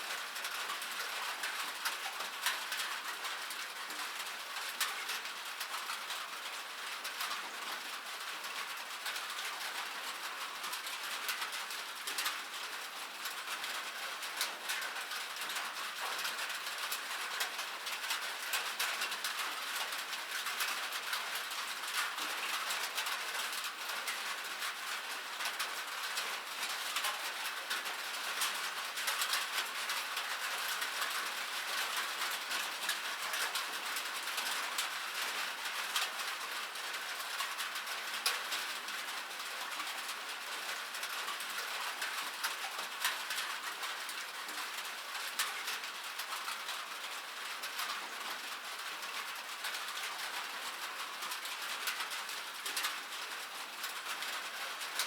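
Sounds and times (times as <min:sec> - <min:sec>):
rain on metal: 0:00.0 - 0:55.0.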